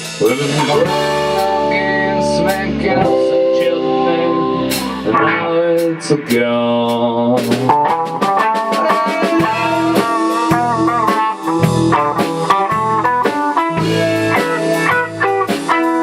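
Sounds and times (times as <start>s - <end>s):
guitar melody: 0.0s - 6.6s, 7.2s - 16.0s
rock band instrumental: 0.0s - 16.0s.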